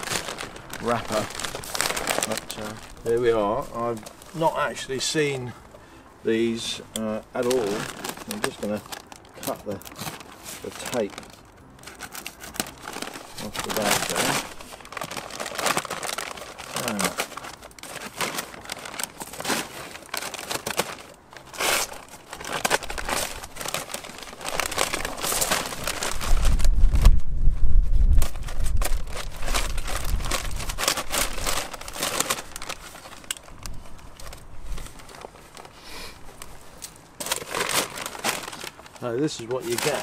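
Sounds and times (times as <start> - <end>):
paper sack crinkling: 0.0 - 5.6, 6.3 - 27.2, 27.9 - 40.0.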